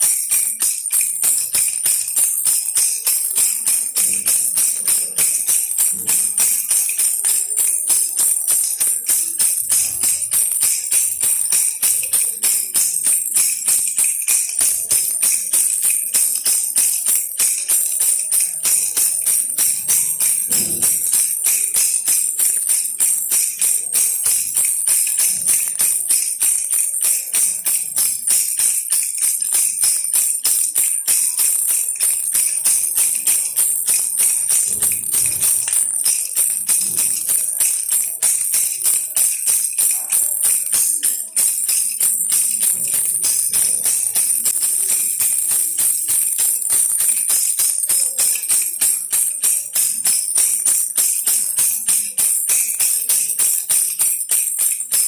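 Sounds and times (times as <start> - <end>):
baby rattle jingling: 0.0 - 55.0.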